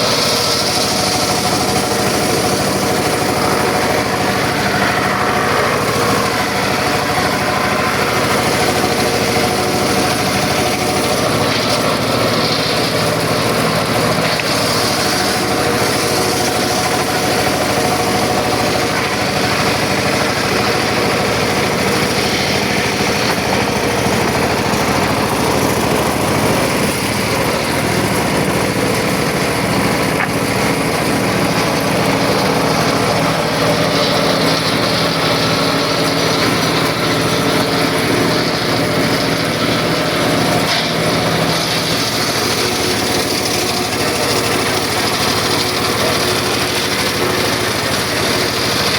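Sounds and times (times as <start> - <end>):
circular saw running: 0.0 - 48.9.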